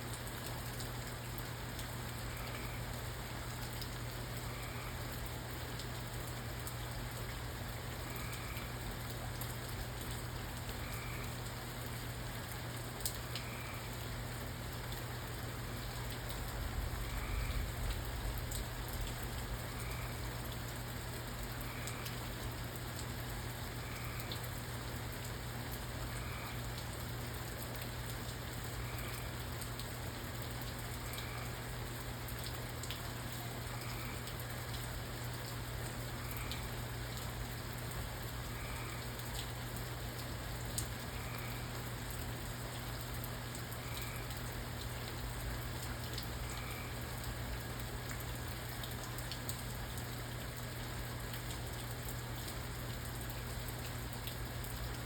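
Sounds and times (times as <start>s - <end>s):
steady rain falling: 0.0s - 55.0s
water drips: 0.1s - 55.0s.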